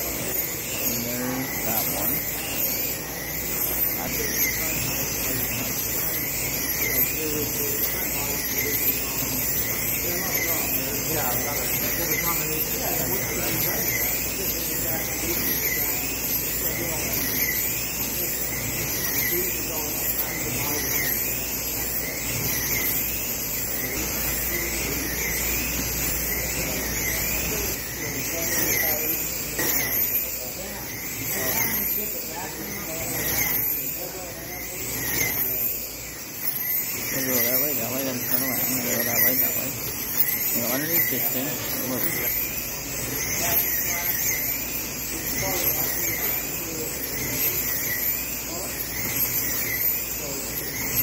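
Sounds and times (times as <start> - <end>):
slot car electric motors whining: 0.0 - 51.0
steady low hum: 0.0 - 51.0.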